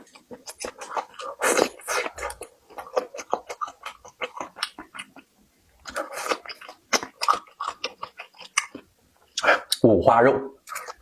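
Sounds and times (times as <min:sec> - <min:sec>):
person chewing and smacking: 0:00.0 - 0:09.8, 0:10.6 - 0:11.0.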